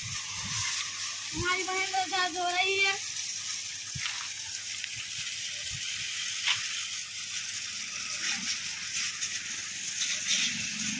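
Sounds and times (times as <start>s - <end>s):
hose water spraying: 0.0s - 10.9s.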